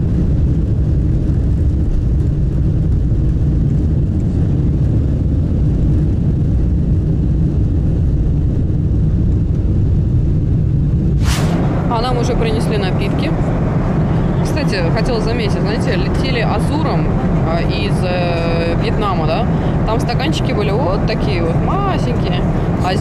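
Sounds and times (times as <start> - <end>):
jet cabin engine rumble: 0.0 - 23.0.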